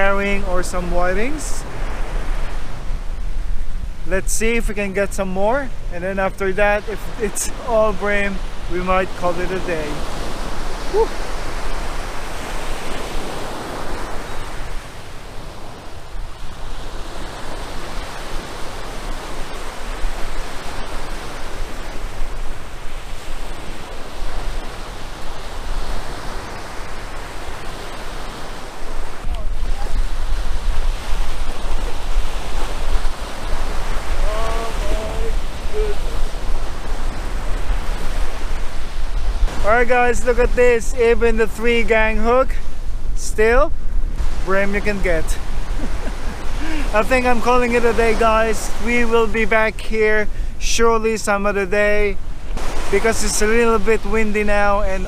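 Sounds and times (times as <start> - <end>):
wind buffeting microphone: 0.0 - 50.6
surf breaking on shore: 0.0 - 55.0.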